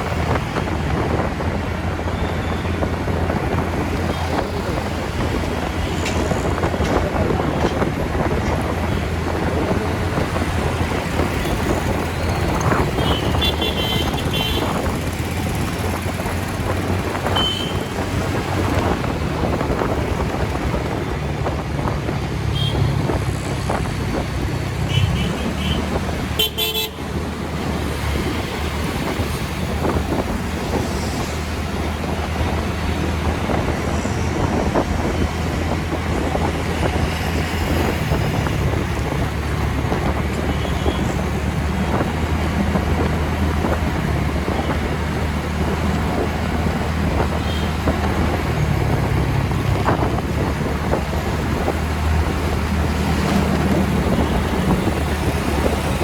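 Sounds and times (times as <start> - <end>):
road traffic: 0.0 - 56.0
wind noise on microphone: 0.0 - 56.0.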